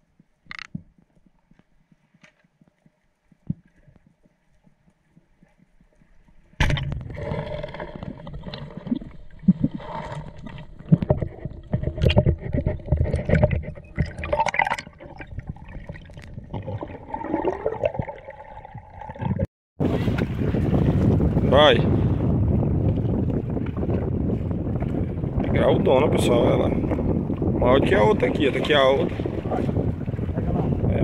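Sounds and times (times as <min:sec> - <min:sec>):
water gurgling and sloshing: 0:00.0 - 0:31.0.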